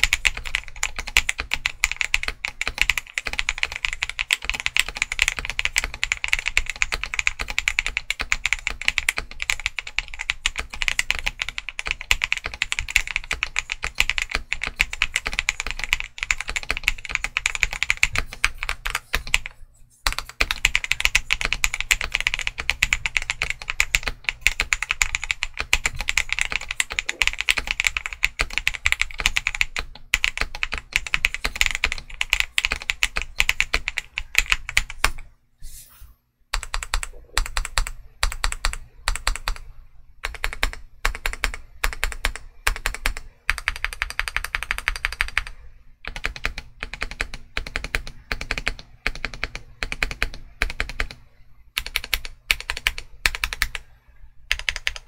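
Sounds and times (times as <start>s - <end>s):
mechanical keyboard typing: 0.0s - 35.3s, 36.5s - 53.9s, 54.5s - 55.0s.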